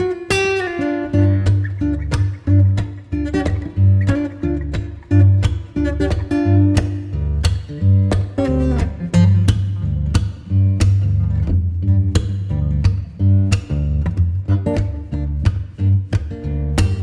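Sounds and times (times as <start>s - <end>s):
guitar tune plucked and strummed: 0.0s - 17.0s
steady bass line: 1.0s - 17.0s
regular drum beat: 1.1s - 17.0s.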